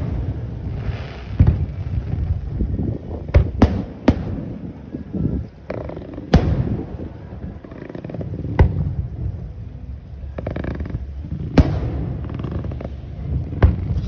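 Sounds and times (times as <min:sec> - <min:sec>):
fireworks bursting: 0:00.0 - 0:14.0
low rumble: 0:00.0 - 0:14.0.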